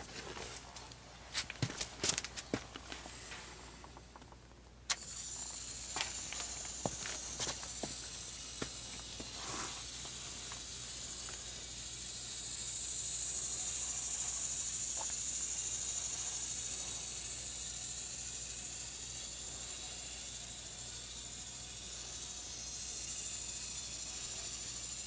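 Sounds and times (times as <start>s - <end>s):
small electric motor hissing: 4.9s - 25.0s.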